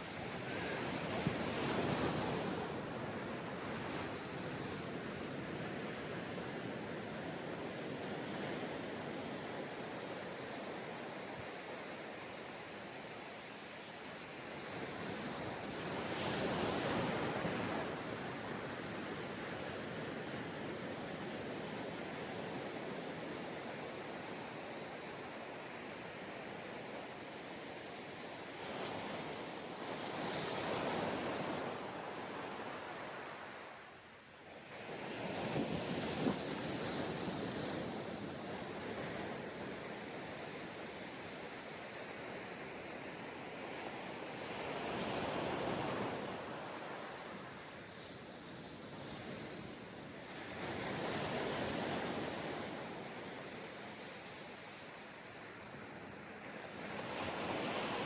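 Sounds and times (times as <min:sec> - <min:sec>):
ocean surf on sandy beach: 0:00.0 - 0:58.0.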